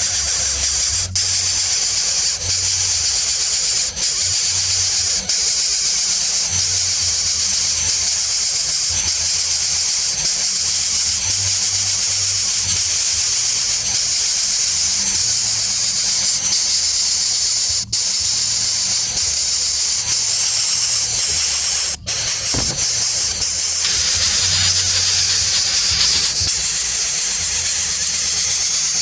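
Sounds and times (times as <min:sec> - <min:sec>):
steady loud hiss: 0:00.0 - 0:29.0.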